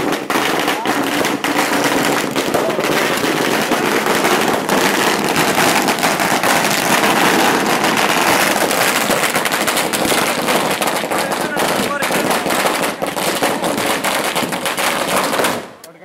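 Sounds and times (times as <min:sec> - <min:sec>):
firecrackers crackling: 0:00.0 - 0:16.0.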